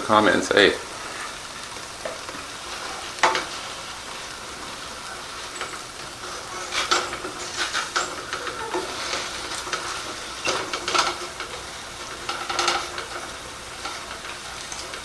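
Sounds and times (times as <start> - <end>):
patties sizzling in a frying pan: 0.0 - 15.0.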